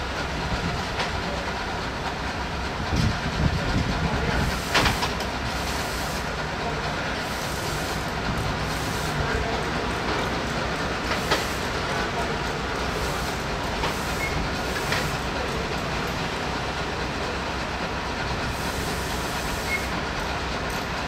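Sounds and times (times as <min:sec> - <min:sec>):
rail vehicle rumble: 0:00.0 - 0:21.0.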